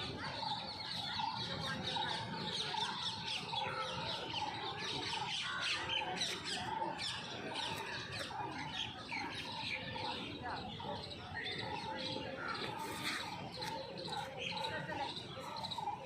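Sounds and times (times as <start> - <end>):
many birds chirping: 0.0 - 16.0.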